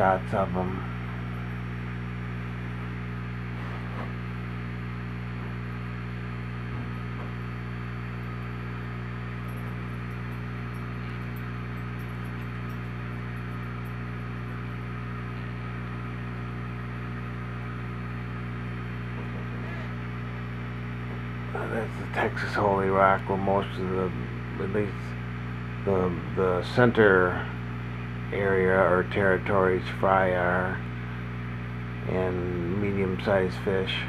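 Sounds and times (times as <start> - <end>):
aquarium equipment humming: 0.0 - 34.0.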